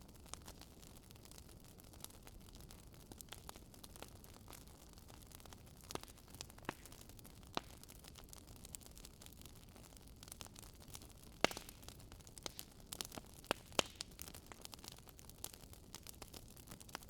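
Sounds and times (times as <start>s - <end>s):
hiss of burning logs: 0.0s - 17.0s
wood fire crackling: 0.0s - 17.0s.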